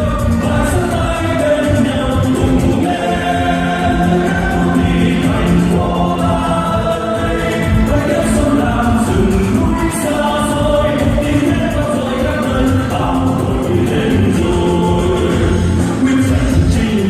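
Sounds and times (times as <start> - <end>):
choir singing: 0.0 - 17.0
musical accompaniment: 0.0 - 17.0.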